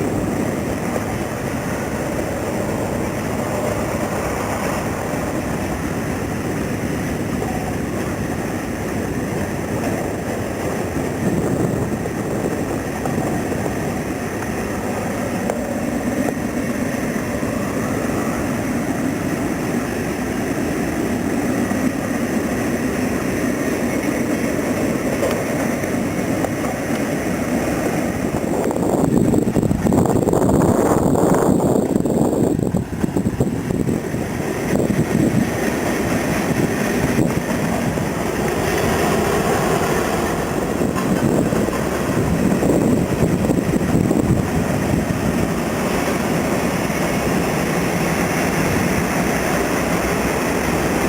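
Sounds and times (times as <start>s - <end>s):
diesel locomotive running: 0.0s - 51.0s
freight train wheels rumbling: 0.0s - 51.0s.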